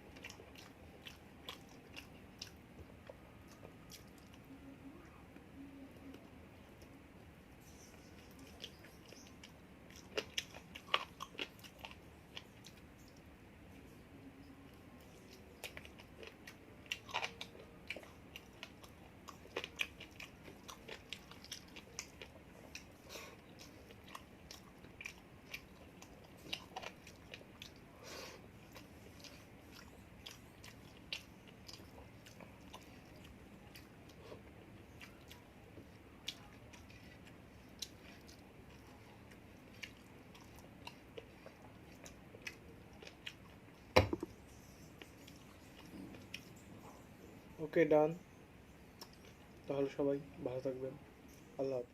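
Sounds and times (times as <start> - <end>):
chewing and crunching food: 0.0 - 7.0, 7.6 - 47.6, 48.3 - 50.3.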